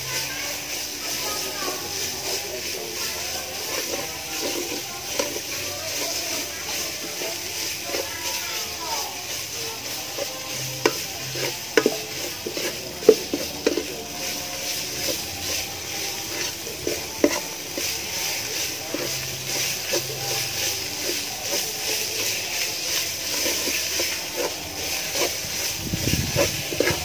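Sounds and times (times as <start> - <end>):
metal spatula scraping a pot: 0.0 - 27.0
oil sizzling: 0.0 - 27.0.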